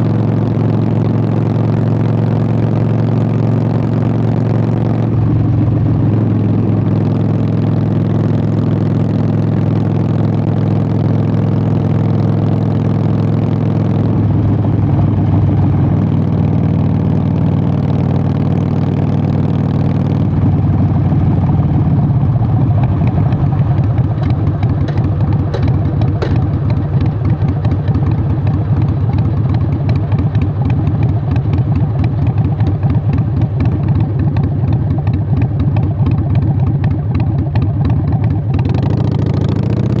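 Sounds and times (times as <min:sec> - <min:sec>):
motorcycle engine while riding: 0:00.0 - 0:40.0.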